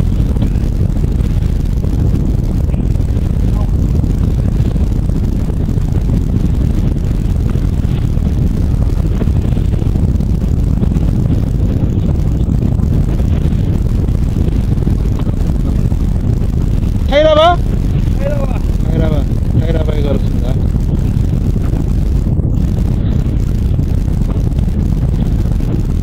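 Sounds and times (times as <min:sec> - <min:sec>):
boat engine rumbling: 0:00.0 - 0:26.0
water noise: 0:00.0 - 0:26.0
wind: 0:00.0 - 0:26.0.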